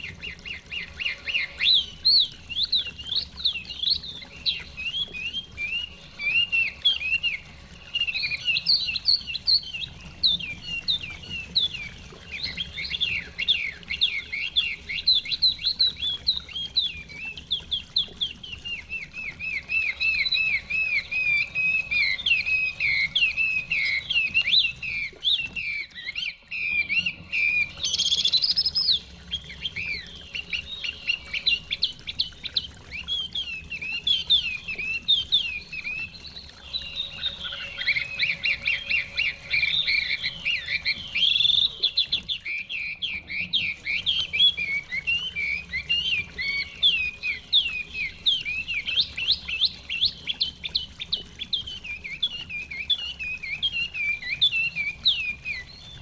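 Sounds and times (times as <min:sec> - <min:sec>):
bird singing whistled phrases: 0:00.0 - 0:56.0.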